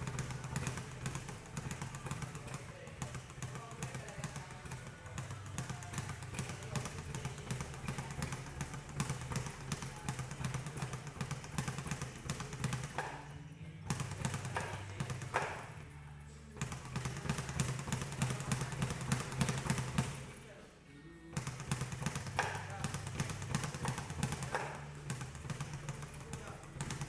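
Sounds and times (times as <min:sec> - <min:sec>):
speed bag rattling: 0:00.0 - 0:20.6, 0:21.3 - 0:27.0.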